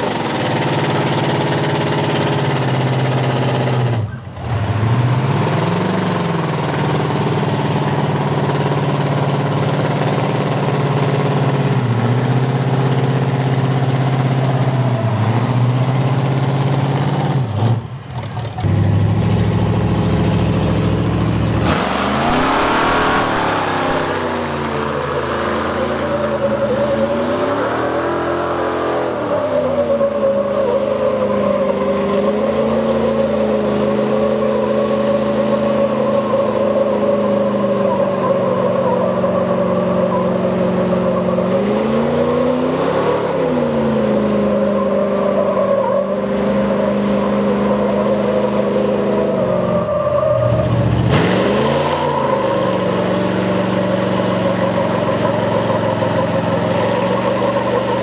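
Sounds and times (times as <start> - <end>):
truck engines revving hard: 0.0 - 58.0.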